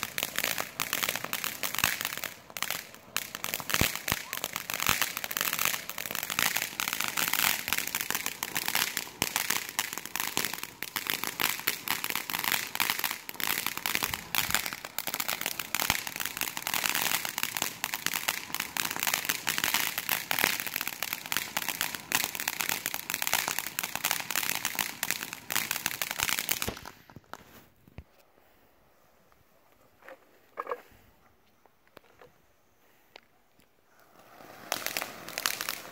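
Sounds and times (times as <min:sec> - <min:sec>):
firework crackling hiss: 0:00.0 - 0:27.8, 0:33.9 - 0:35.9.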